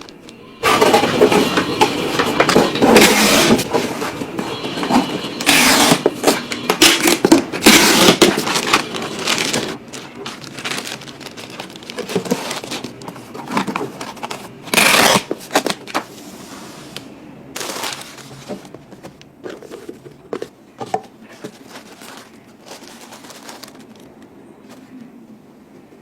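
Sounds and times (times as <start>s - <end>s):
crinkling and rustling: 0.0s - 26.0s.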